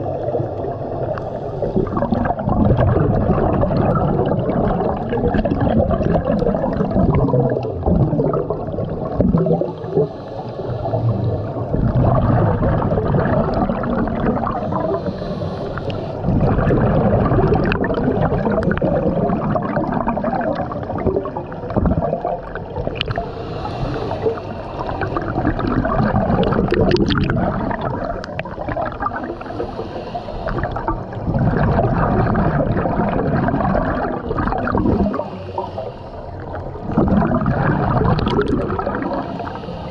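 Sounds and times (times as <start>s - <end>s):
underwater regulator bubbles gurgling: 0.0s - 39.9s.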